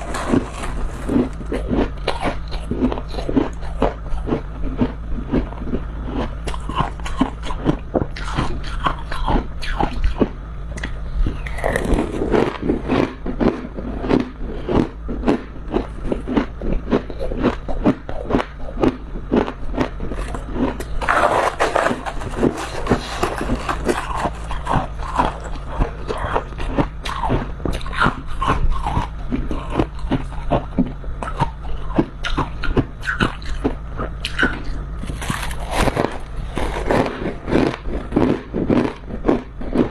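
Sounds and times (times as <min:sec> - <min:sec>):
biting and chewing crunchy frost: 0:00.0 - 0:39.9.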